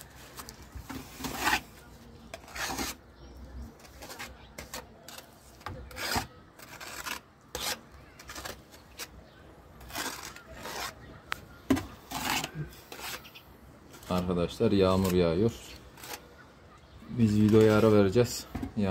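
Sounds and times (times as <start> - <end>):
masonry scraping: 0.0 - 18.9.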